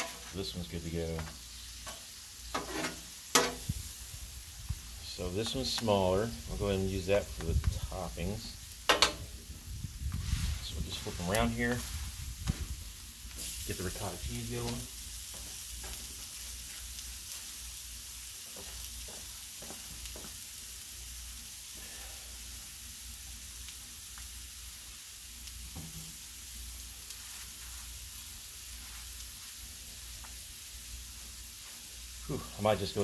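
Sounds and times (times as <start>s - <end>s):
seafood sizzling on a griddle: 0.0s - 33.0s.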